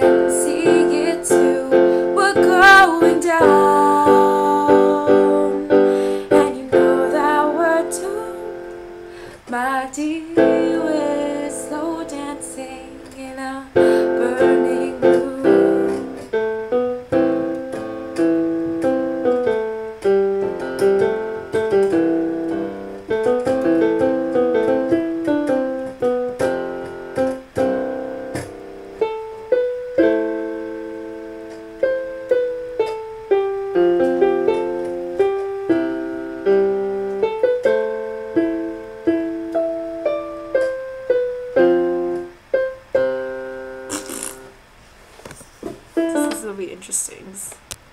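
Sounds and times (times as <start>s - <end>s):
solo piano playing: 0.0s - 44.6s, 45.9s - 46.8s.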